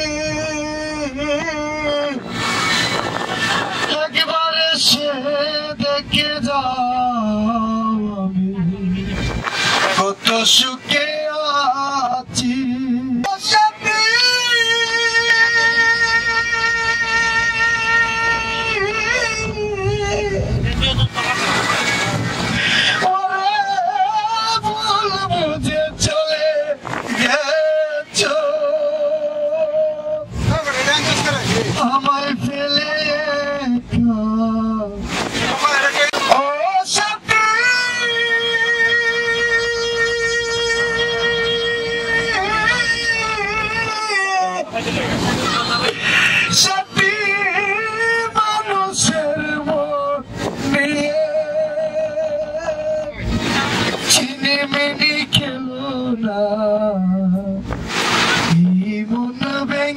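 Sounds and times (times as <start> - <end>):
man singing with vibrato: 0.0 - 21.7, 22.5 - 59.9.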